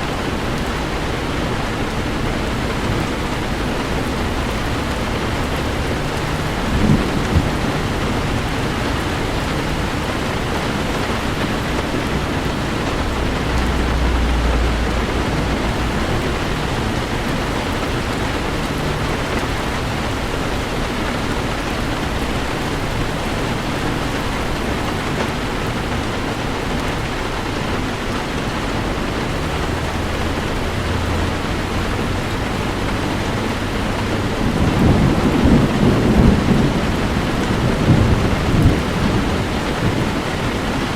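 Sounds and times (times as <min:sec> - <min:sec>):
heavy rain on a car: 0:00.0 - 0:40.9
thunder rumbling: 0:00.0 - 0:40.9.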